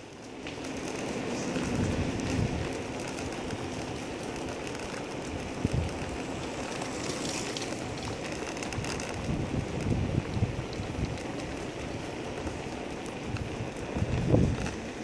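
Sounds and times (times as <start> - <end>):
footsteps on paved path: 0.0 - 15.0
wind rushing on microphone: 1.2 - 4.2, 5.2 - 15.0.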